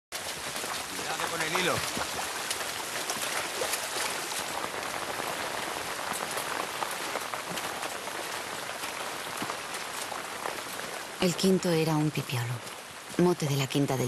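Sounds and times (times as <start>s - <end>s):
raindrop impacts: 0.1s - 14.0s
steady rain falling: 0.1s - 14.0s.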